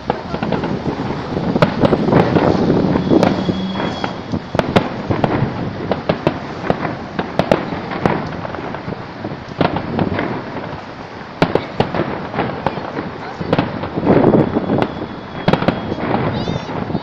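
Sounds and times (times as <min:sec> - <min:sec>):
fireworks bangs and pops: 0:00.0 - 0:17.0
fireworks crackling: 0:00.0 - 0:17.0.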